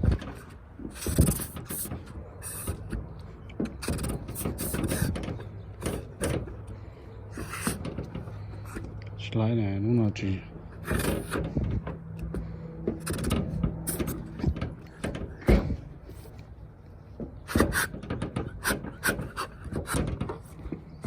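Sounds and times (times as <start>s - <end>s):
tools knocking and scraping bumper: 0.0s - 9.0s, 10.6s - 21.0s.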